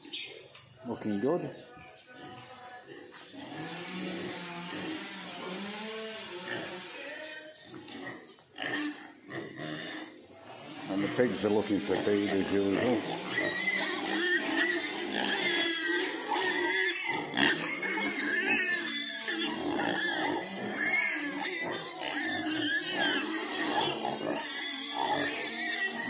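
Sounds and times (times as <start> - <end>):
pigs squealing: 2.2 - 26.0.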